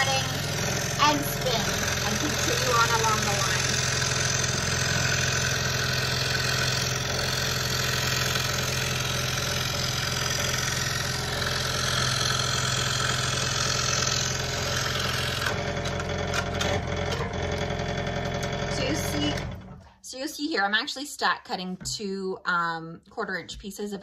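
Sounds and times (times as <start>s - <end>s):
saw ticking: 0.0s - 19.5s
scroll saw cutting wood: 0.0s - 19.6s.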